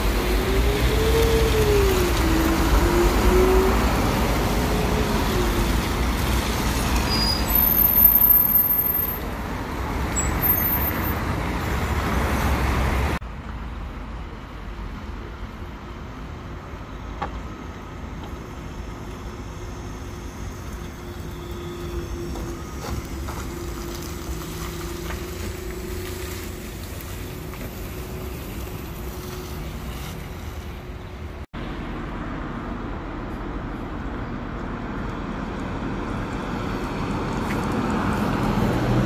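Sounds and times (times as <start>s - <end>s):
tyres hissing on wet road: 0.0s - 32.0s, 35.2s - 39.0s
buses driving: 0.0s - 39.0s.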